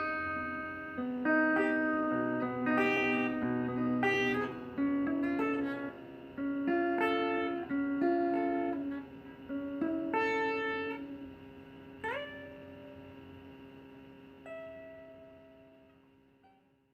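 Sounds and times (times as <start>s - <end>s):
plucked guitar: 0.0s - 13.3s, 14.4s - 16.6s.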